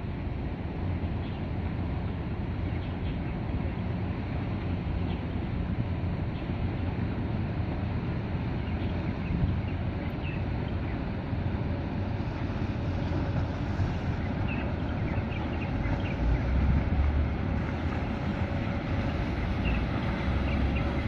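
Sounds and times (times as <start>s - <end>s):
low rumble of water: 0.0s - 21.0s
wind buffeting microphone: 0.0s - 21.0s.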